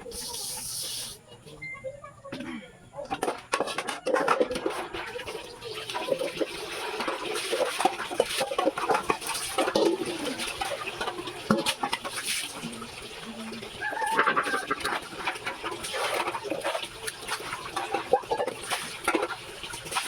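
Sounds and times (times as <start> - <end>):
chickens clucking: 0.0 - 19.4.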